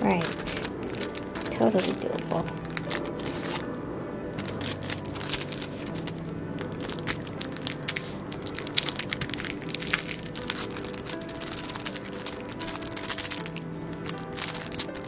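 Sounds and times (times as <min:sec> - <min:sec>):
background music: 0:00.0 - 0:15.0
plastic sleeve crinkling: 0:00.0 - 0:15.0.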